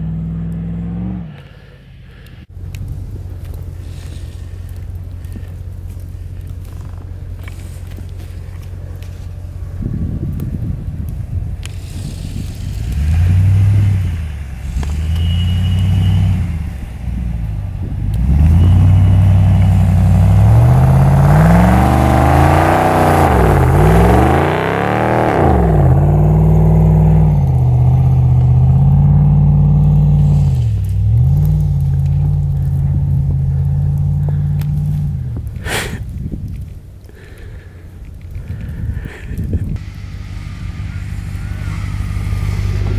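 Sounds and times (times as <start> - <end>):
truck engine revving: 0.0 - 1.8, 2.8 - 35.6, 39.2 - 42.9.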